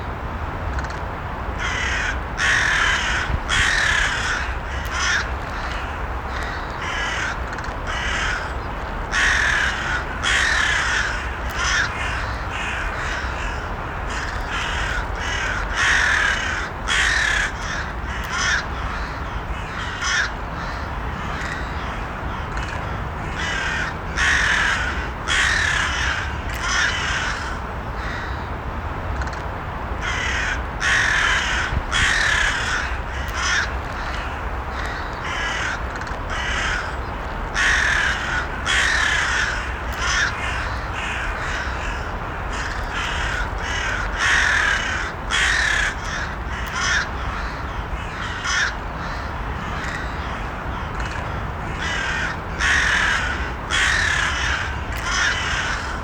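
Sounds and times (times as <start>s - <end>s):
crows cawing: 1.6s - 28.5s, 30.0s - 56.0s.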